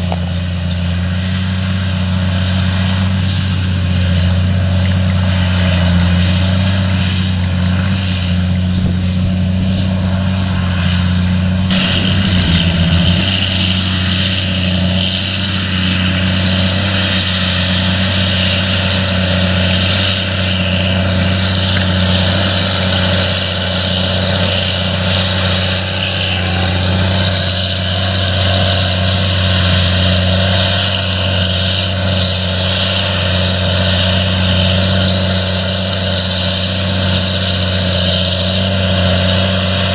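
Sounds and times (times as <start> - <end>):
engine drone with hiss: 0.0 - 39.9.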